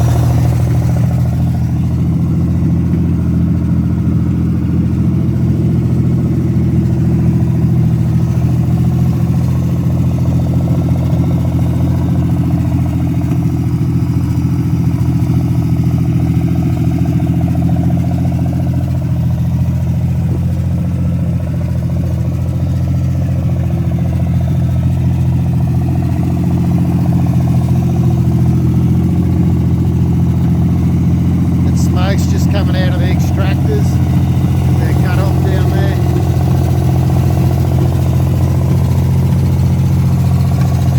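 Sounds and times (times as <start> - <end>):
unmuffled car engine idling: 0.0 - 40.9.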